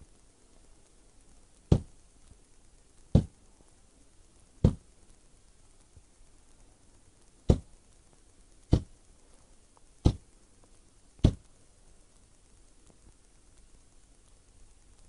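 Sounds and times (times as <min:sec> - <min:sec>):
tesla coil spark snaps: 0:00.0 - 0:15.0.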